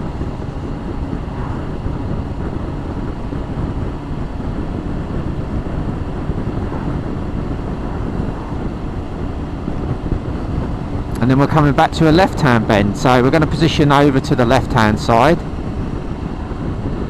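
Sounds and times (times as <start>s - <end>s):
motorcycle engine and road noise: 0.0s - 17.0s
wind rushing on microphone: 0.0s - 17.0s.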